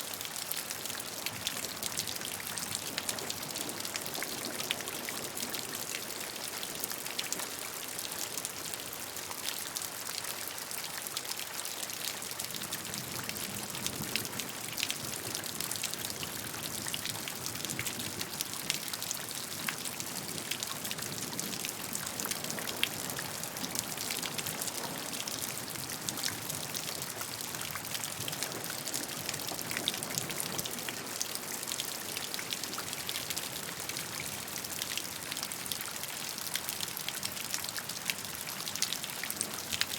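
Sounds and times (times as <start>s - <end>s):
raindrops striking a surface: 0.3s - 39.9s.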